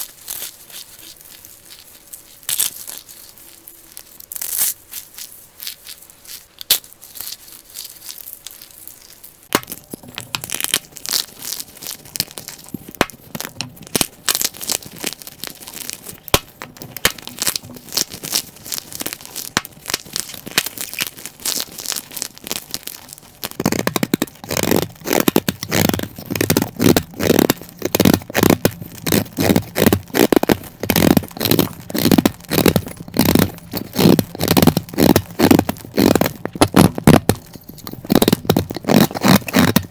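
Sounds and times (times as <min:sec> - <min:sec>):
brittle cubes crackling and crunching: 0:00.0 - 0:39.9.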